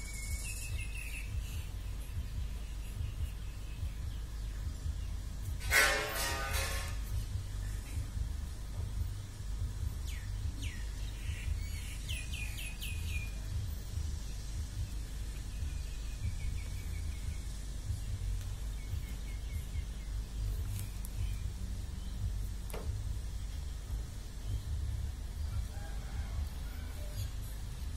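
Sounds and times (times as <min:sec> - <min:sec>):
small birds chirping: 0:00.0 - 0:05.7, 0:07.1 - 0:27.9
steady low rumble: 0:00.0 - 0:27.9.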